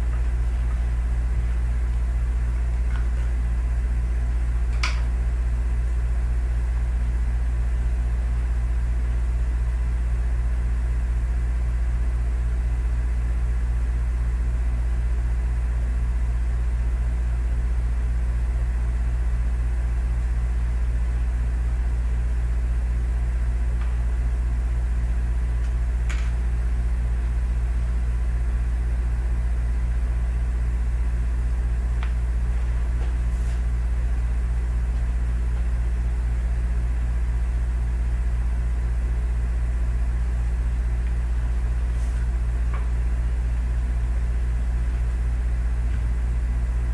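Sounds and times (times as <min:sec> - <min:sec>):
loud steady low hum: 0:00.0 - 0:46.9.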